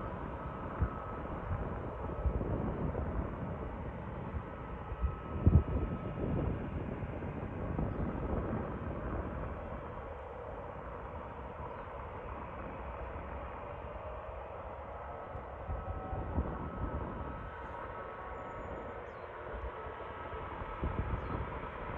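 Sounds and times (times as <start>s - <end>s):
distant jet taxiing rumble: 0.0s - 21.9s.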